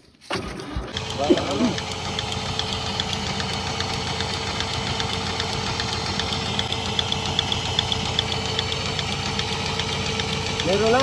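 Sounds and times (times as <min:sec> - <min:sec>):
engine idling: 0:00.7 - 0:11.0
fast regular ticking: 0:01.0 - 0:11.0.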